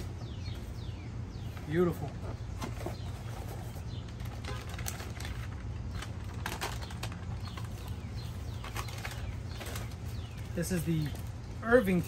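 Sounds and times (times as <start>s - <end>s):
cardboard and paper crinkling: 1.4s - 12.0s.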